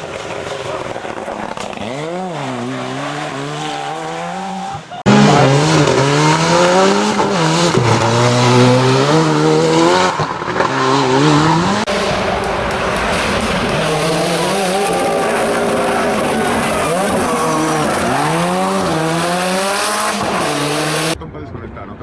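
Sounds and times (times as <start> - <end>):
rally car engine revving: 0.0 - 21.2.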